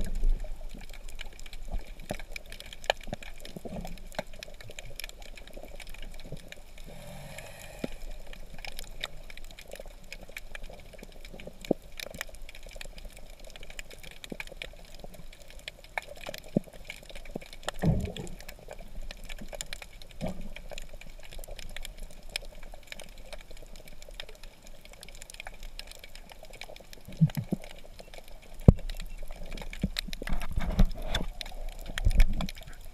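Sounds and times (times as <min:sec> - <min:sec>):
sharp underwater clicks and crackles: 0:00.0 - 0:32.9
underwater wash: 0:00.0 - 0:32.9.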